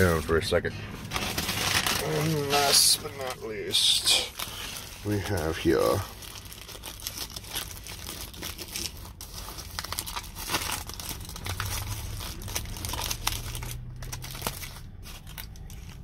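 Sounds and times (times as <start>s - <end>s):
aluminium foil crinkling: 1.0s - 16.0s.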